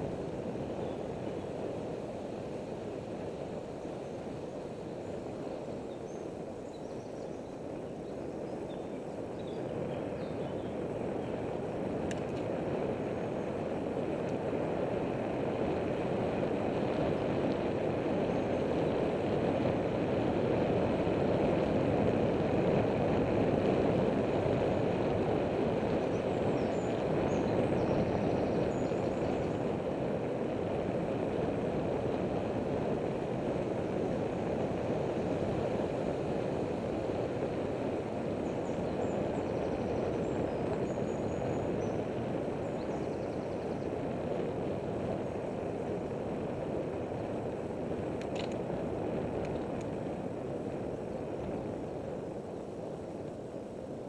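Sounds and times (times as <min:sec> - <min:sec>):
bicycle road noise: 0:00.0 - 0:54.0.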